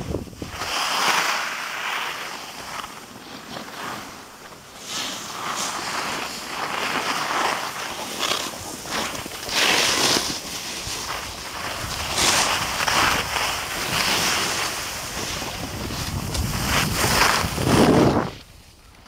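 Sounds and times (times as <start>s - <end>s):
edges scraping over packed snow: 0.0s - 18.7s.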